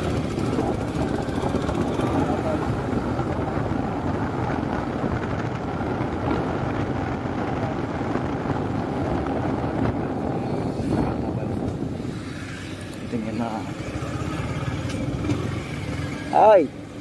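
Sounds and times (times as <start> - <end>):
wind rushing over microphone: 0.0 - 16.7
motorcycle running: 0.0 - 17.0.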